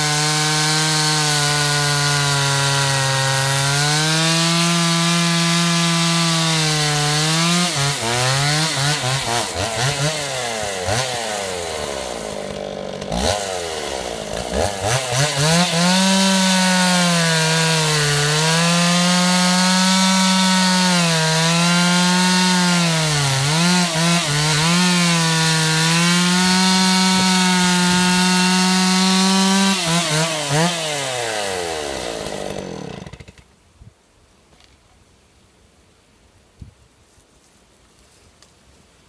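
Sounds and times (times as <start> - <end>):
chainsaw cutting log: 0.0 - 33.5.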